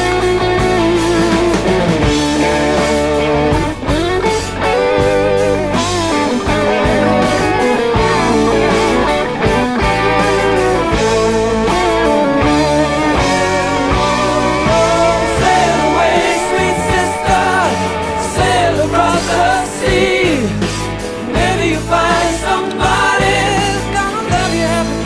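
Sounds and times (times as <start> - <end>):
rock music with guitar and bass: 0.0 - 25.0.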